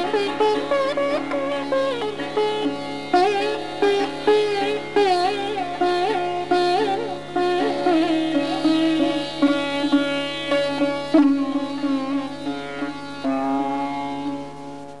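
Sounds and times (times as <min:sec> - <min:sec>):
sitar melody with drone: 0:00.0 - 0:15.0.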